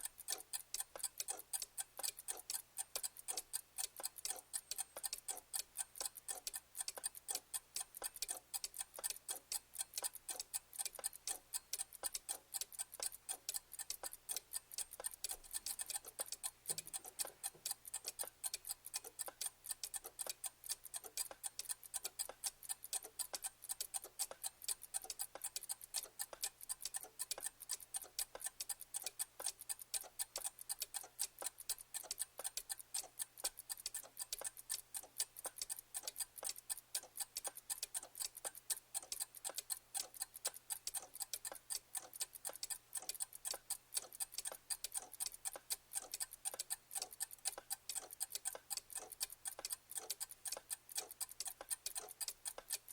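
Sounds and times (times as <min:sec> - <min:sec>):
clock ticking: 0:00.0 - 0:52.9.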